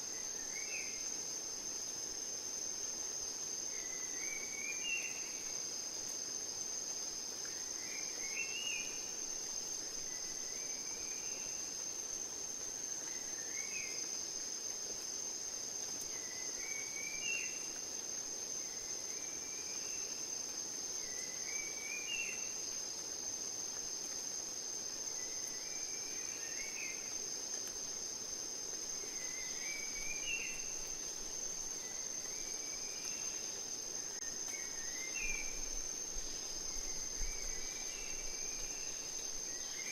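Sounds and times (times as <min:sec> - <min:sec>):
high-pitched insect trill: 0:00.0 - 0:39.9
soft background hiss: 0:00.0 - 0:39.9.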